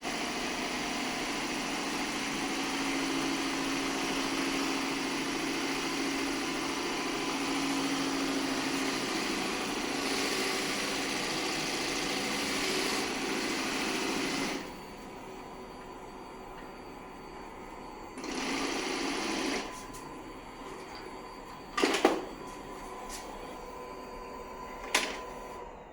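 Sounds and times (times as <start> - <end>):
vacuum suction motor humming: 0.1 - 25.9.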